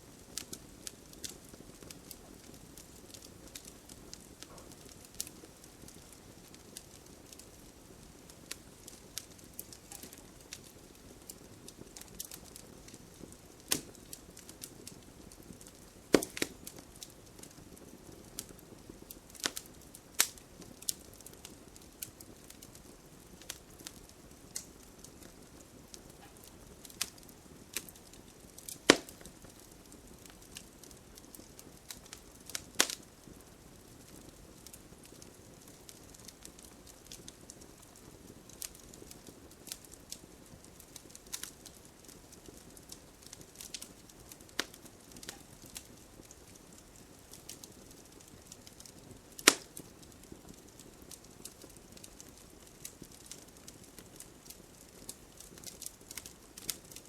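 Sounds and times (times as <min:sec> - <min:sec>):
burning wood crackling and popping: 0:00.0 - 0:57.0
hiss of flames: 0:00.0 - 0:57.0.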